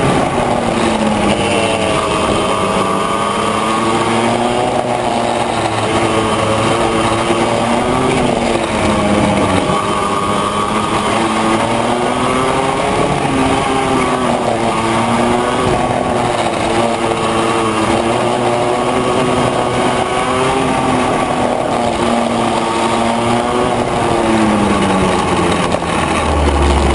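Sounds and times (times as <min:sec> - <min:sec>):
kart engine revving: 0:00.0 - 0:26.9.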